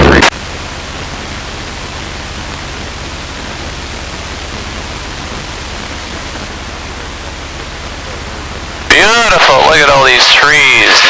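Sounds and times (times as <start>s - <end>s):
engine and propeller hum: 0.0s - 11.0s
cockpit hiss: 0.2s - 11.0s.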